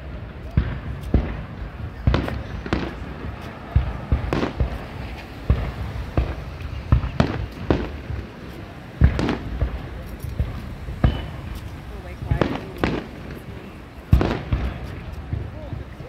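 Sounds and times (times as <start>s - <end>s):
fireworks bursting with booms: 0.0s - 16.0s.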